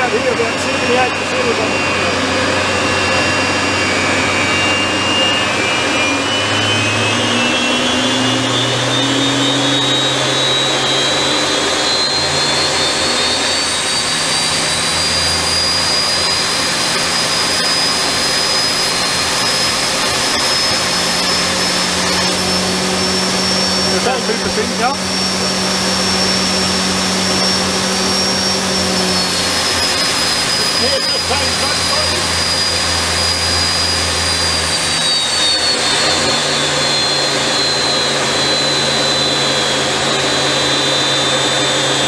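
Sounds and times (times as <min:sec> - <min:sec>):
compressor whine rising in pitch: 0:00.0 - 0:42.0
jet engine roar: 0:00.0 - 0:42.0.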